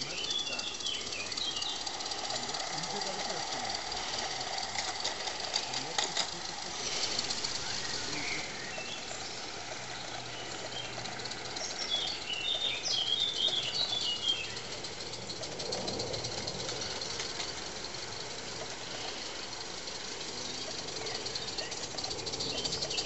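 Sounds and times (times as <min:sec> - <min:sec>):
model train ticking on track: 0:00.0 - 0:23.0
songbird chirping: 0:00.0 - 0:23.0.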